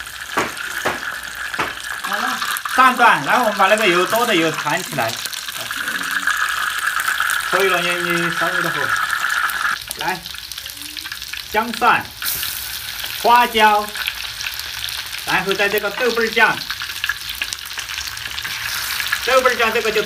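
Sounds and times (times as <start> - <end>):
hot oil sizzling in a wok: 0.0 - 20.0.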